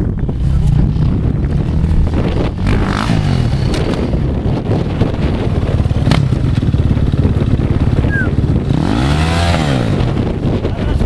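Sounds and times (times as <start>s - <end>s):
dirt bike engine revving: 0.8s - 10.6s.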